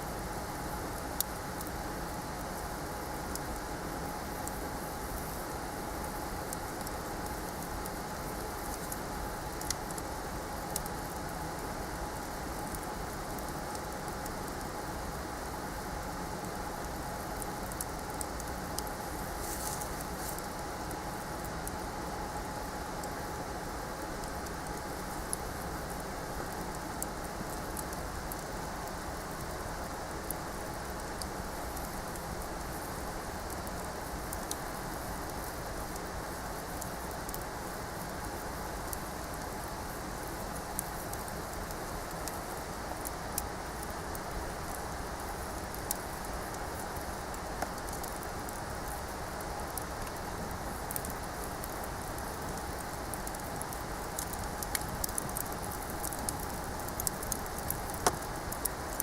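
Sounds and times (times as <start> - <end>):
bonfire hissing: 0.1 - 59.0
fire crackles and pops: 0.1 - 59.0.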